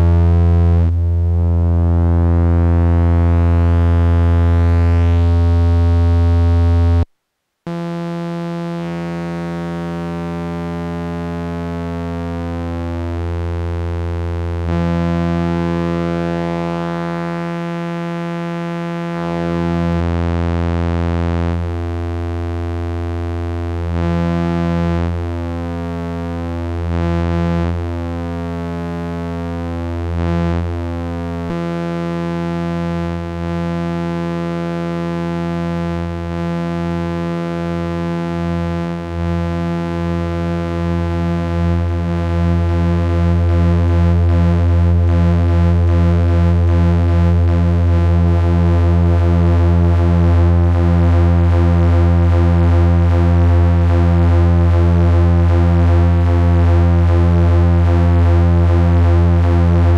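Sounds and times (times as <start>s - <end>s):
synthesizer droning note: 0.0s - 7.0s, 7.7s - 59.9s.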